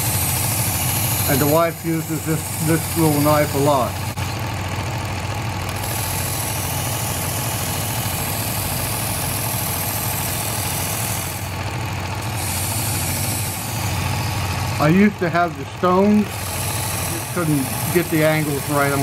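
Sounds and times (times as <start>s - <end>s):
knife grinding on abrasive belt: 0.0s - 4.2s, 5.7s - 19.0s
sharpener motor hum: 0.0s - 19.0s.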